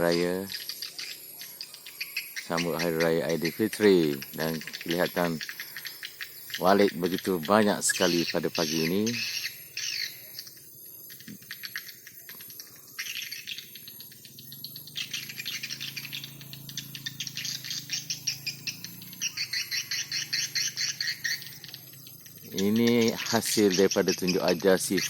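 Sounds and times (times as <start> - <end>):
swiftlets twittering: 0.0 - 25.0.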